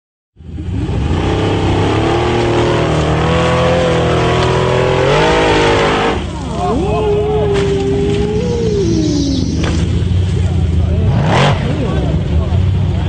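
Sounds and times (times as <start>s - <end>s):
buggy engine revving hard: 0.5s - 6.6s, 7.4s - 13.0s.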